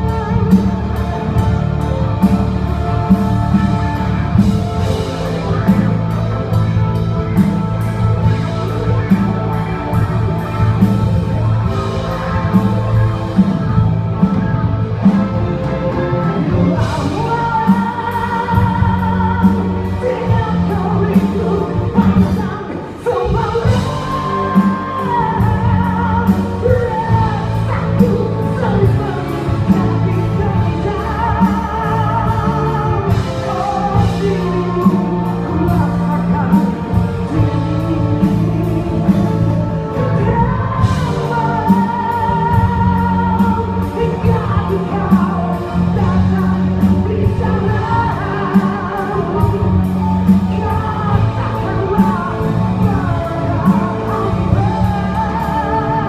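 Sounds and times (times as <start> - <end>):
pop band with drum beat: 0.0 - 56.0.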